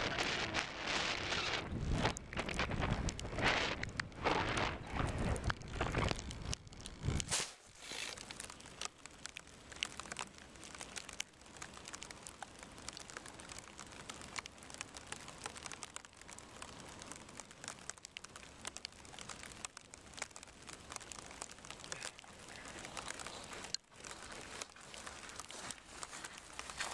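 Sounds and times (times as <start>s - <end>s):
rain drops crackling on microphone: 0.0s - 26.9s.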